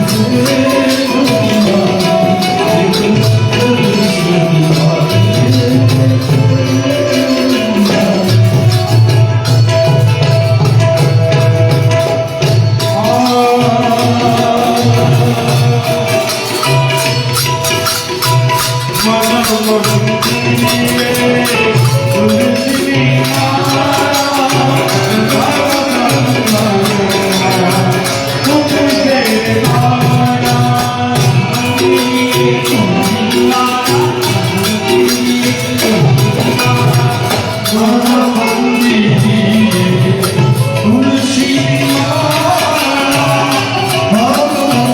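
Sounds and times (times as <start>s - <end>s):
folk song singing: 0.0s - 44.9s
jingling percussion: 0.0s - 44.9s.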